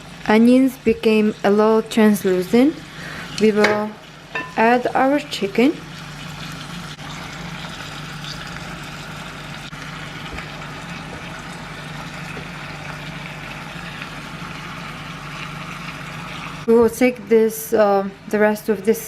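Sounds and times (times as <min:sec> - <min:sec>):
chicken and onions sizzling in oil: 0:00.0 - 0:19.0.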